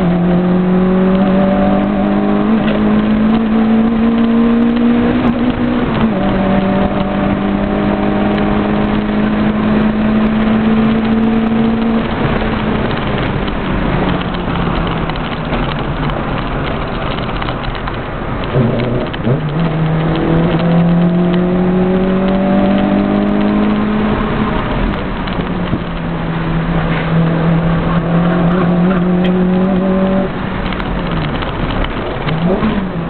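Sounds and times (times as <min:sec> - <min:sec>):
car engine revving: 0:00.0 - 0:33.0
road and tyre noise: 0:00.0 - 0:33.0.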